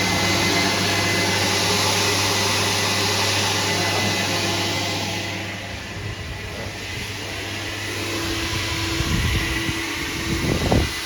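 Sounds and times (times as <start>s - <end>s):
vacuum rushing hiss: 0.0s - 11.0s.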